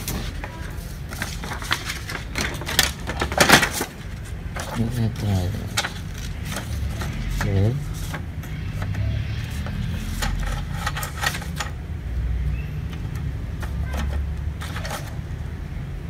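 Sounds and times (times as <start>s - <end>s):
clicks and rattles from rollers: 0.0s - 9.0s, 9.6s - 11.9s, 12.9s - 15.3s
document feeder motor hum: 0.0s - 16.0s.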